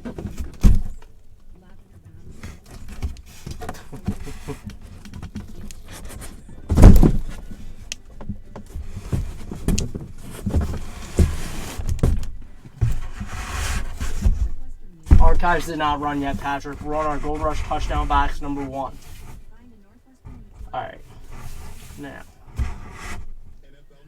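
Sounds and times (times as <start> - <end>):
cardboard boxes being handled: 0.0 - 24.0.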